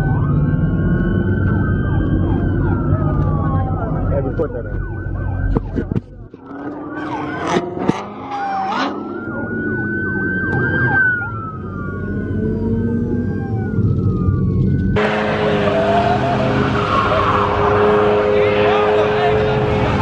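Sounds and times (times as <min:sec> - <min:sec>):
low rumble of car engines: 0:00.0 - 0:20.0
police sirens wailing: 0:00.0 - 0:20.0.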